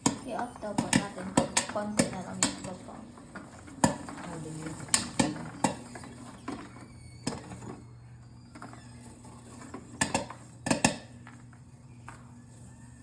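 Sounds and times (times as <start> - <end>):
popcorn popping: 0.0 - 13.0.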